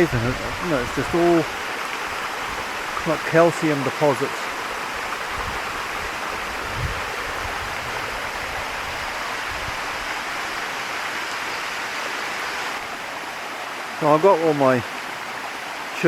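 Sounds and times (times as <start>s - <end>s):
waterfall splashing over rocks: 0.0s - 16.0s.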